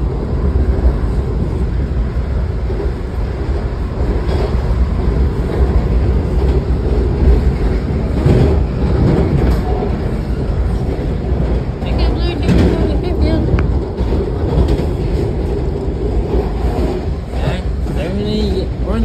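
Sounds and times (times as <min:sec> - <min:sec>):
train clatter: 0:00.0 - 0:19.0
train rumbling on rails: 0:00.0 - 0:19.0.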